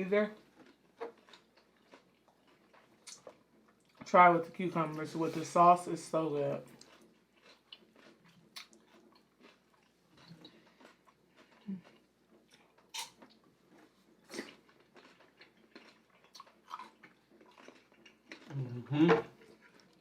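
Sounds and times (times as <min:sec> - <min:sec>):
person chewing food: 0:00.3 - 0:04.1, 0:06.6 - 0:20.0.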